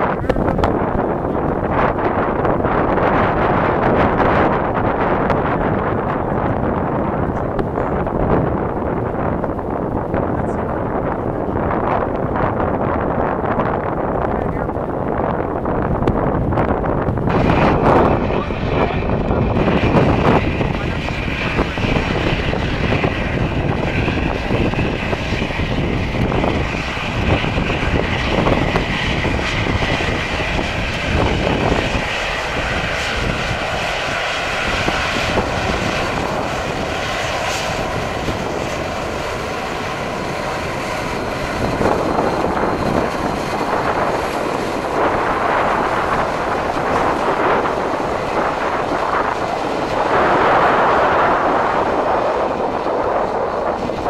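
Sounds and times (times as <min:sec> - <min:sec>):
airliner engines whining: 0:00.0 - 0:54.0.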